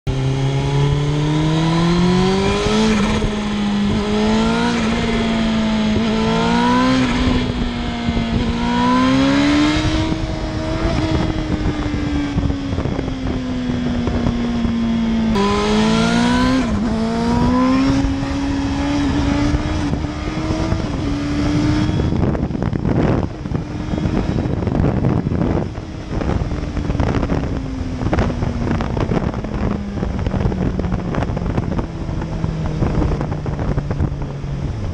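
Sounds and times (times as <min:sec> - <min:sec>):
motorcycle engine accelerating: 0:00.0 - 0:34.9
wind rush: 0:00.1 - 0:34.9.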